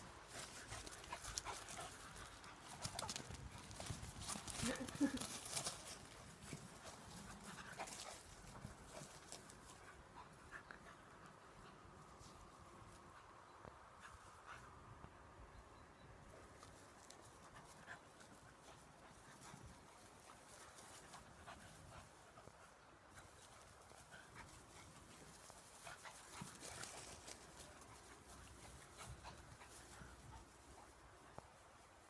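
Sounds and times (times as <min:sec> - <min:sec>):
small rustles and ticks: 0:00.0 - 0:15.2, 0:16.2 - 0:32.0
dog panting: 0:00.3 - 0:12.1, 0:17.4 - 0:31.2.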